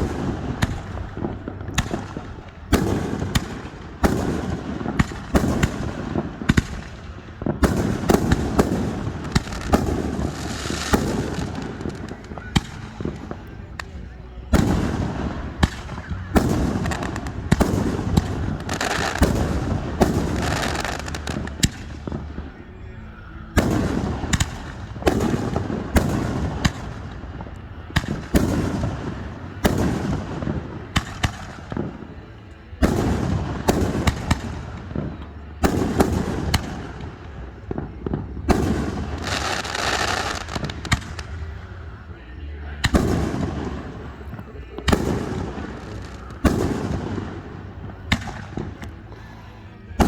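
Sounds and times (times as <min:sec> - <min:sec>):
fireworks bursting with echo: 0:00.0 - 0:50.0.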